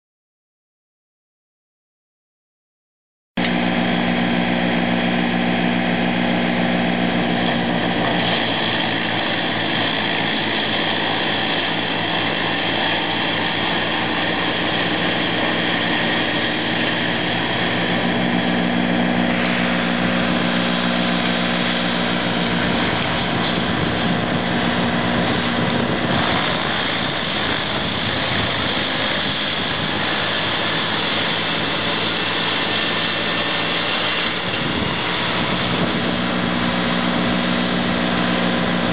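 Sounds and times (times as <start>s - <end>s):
wood chipper drone: 3.4s - 38.9s.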